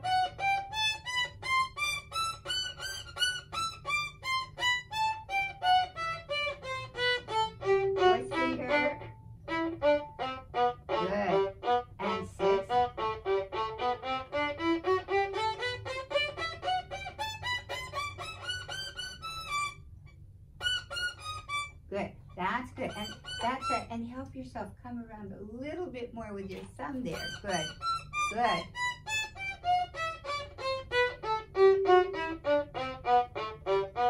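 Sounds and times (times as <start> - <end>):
violin playing a scale: 0.0 - 21.9, 22.5 - 24.0, 26.5 - 34.0.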